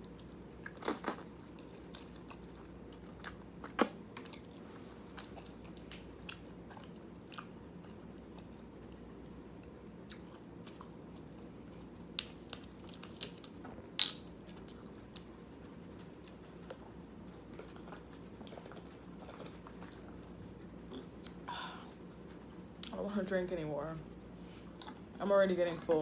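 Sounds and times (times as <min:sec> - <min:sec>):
chewing noodles: 0:00.0 - 0:22.9.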